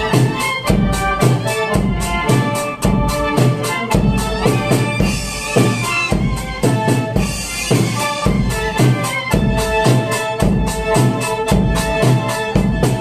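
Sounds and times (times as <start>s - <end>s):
kick drum and snare beat: 0.0s - 13.0s
sustained melodic instruments: 0.0s - 13.0s.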